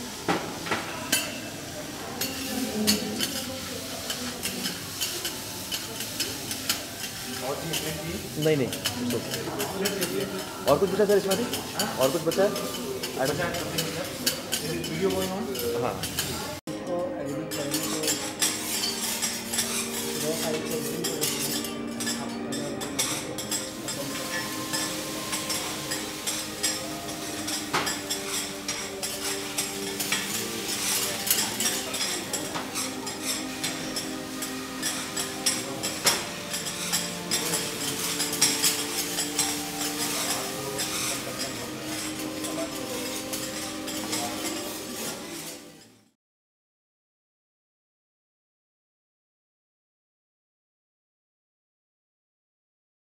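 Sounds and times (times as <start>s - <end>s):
food sizzling on hot griddle: 0.0s - 16.6s, 17.7s - 46.0s
metal spatulas scraping griddle: 2.2s - 16.4s, 17.6s - 46.0s.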